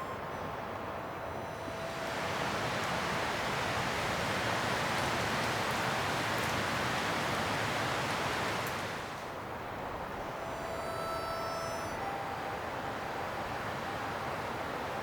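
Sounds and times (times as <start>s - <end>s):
wind rushing through pine trees: 0.0s - 15.0s.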